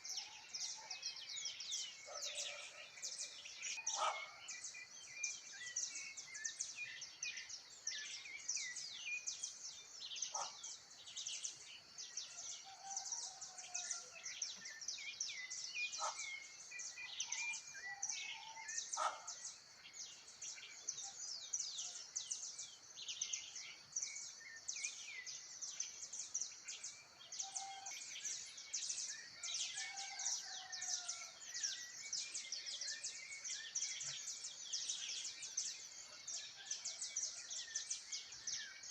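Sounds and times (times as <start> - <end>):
birds chirping in chorus: 0.0 - 38.9.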